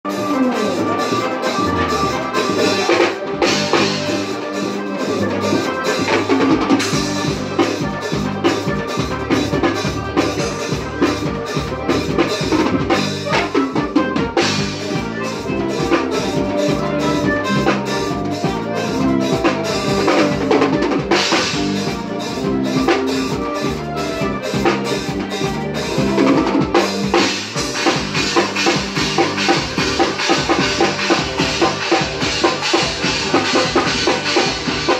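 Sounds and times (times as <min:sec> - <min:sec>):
bass line: 0:00.0 - 0:34.9
electronic keyboard: 0:00.0 - 0:34.9
live band playing: 0:00.0 - 0:34.9
drum kit beat: 0:00.1 - 0:34.9.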